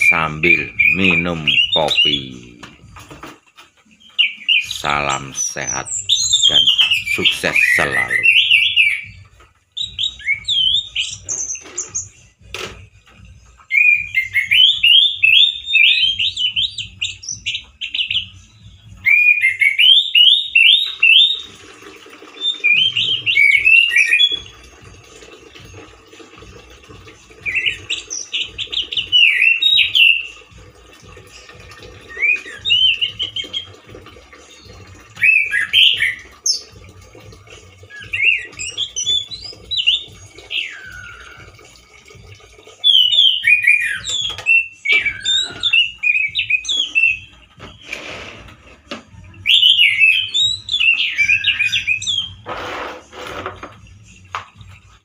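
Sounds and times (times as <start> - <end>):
thrush singing whistled notes: 0.0 - 2.8, 4.0 - 12.5, 13.6 - 21.7, 22.3 - 24.7, 27.2 - 36.9, 37.5 - 41.8, 42.8 - 48.3, 49.3 - 52.5.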